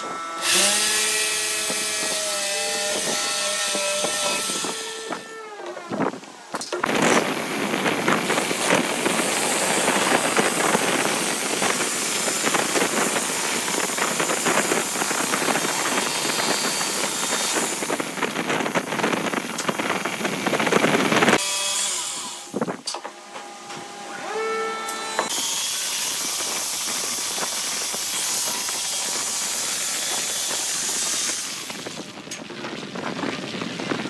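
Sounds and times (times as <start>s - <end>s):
jigsaw cutting wood: 0.0s - 32.2s.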